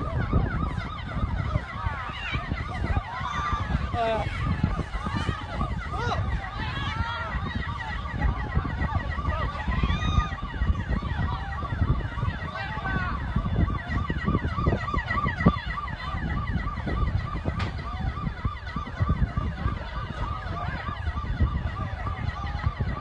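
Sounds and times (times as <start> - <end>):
emergency vehicle sirens: 0.0 - 23.0
steady low rumble: 0.0 - 23.0.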